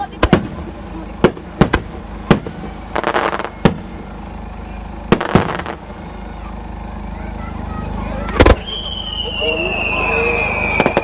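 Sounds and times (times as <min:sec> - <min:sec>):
fireworks bangs: 0:00.0 - 0:06.4, 0:08.2 - 0:11.0
fireworks crackling: 0:00.0 - 0:11.0
steady murmur: 0:00.0 - 0:11.0.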